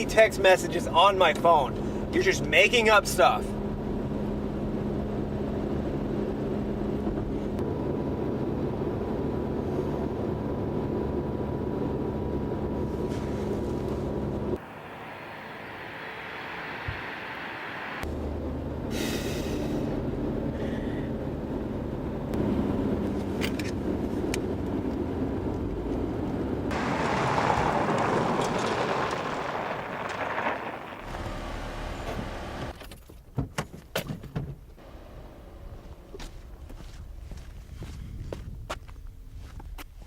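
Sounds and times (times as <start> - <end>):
car engine and road noise: 0.0 - 39.8.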